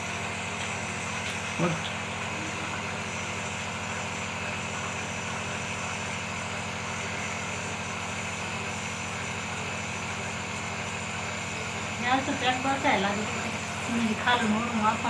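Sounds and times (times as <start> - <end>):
nebulizer mechanical hum: 0.0 - 15.0.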